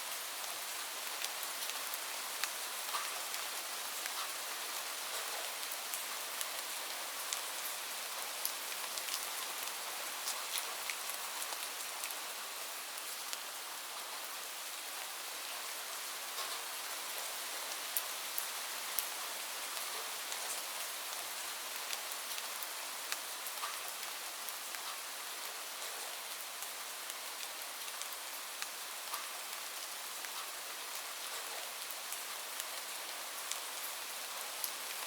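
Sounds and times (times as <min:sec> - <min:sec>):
light rain falling: 0:00.0 - 0:35.0.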